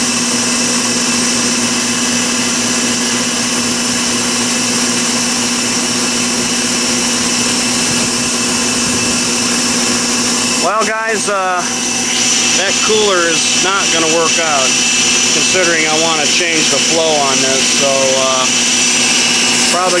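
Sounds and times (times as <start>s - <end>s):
air compressor drone with whine: 0.0s - 20.0s.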